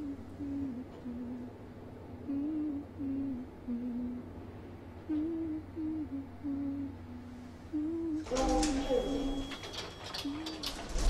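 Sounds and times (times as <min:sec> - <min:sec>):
person humming a low tune: 0:00.0 - 0:01.6, 0:02.2 - 0:09.5.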